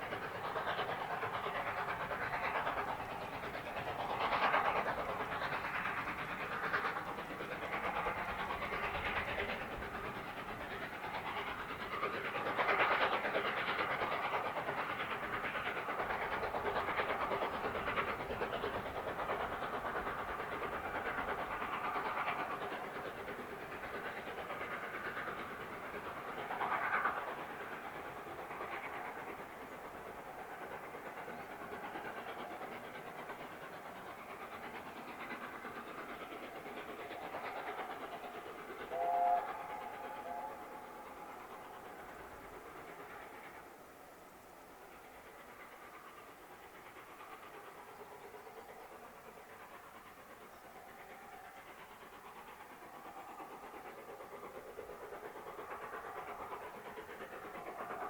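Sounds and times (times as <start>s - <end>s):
steam hiss: 0.0s - 58.0s
train wheels clattering over rails: 0.0s - 58.0s.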